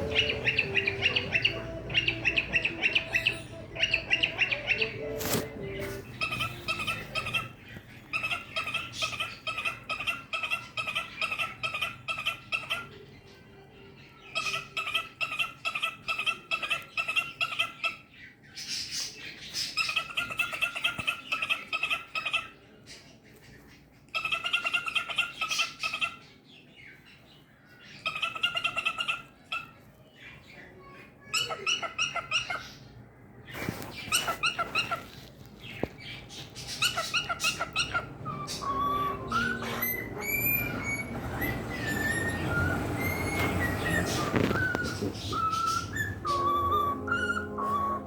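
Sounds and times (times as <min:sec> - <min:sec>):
cockatiel chirping: 0:00.0 - 0:13.0, 0:14.2 - 0:22.6, 0:24.1 - 0:26.3, 0:30.8 - 0:32.9, 0:33.8 - 0:48.0.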